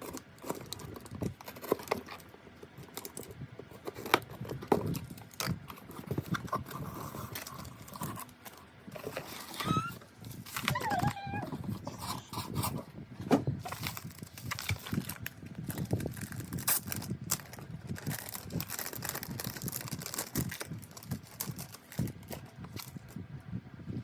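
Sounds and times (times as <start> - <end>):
packaging crinkling and rustling: 0.0 - 12.8, 13.6 - 23.2.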